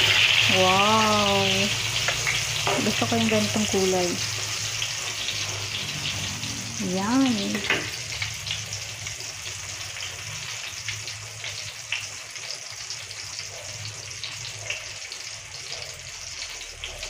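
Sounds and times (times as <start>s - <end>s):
omelette sizzling in oil: 0.0s - 17.0s.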